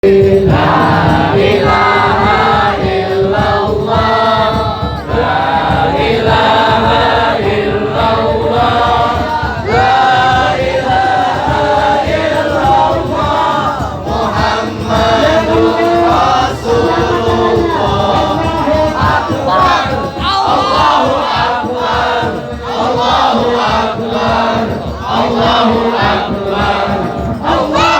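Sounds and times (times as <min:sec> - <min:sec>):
group of voices chanting: 0:00.0 - 0:27.9.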